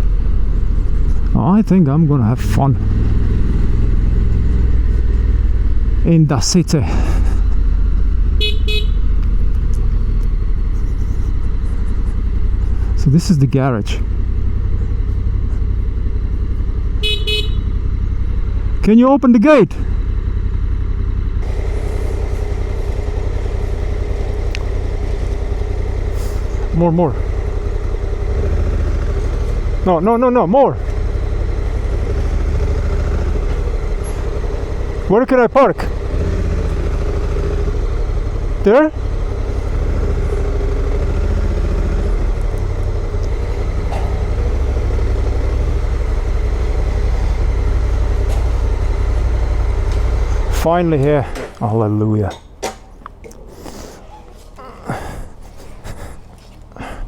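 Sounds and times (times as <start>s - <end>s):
motorcycle engine idling: 0.0s - 51.6s.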